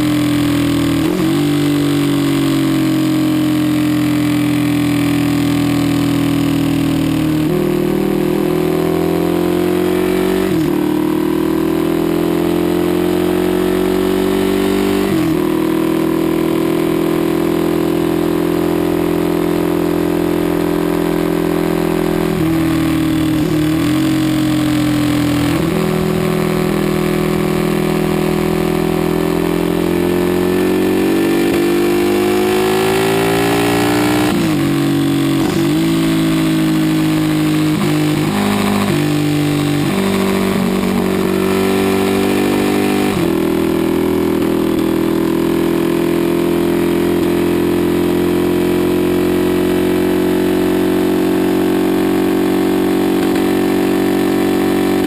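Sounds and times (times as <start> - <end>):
motorcycle engine at racing revs: 0.0 - 55.0.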